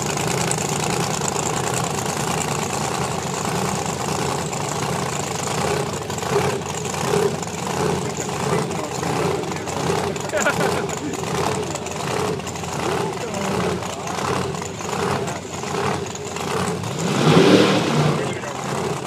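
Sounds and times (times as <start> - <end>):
racing car engine idling: 0.0 - 19.0.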